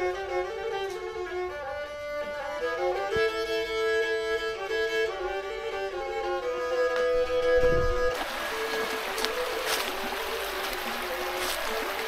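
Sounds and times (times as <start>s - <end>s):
bowed fiddle playing folk tune: 0.0s - 12.0s.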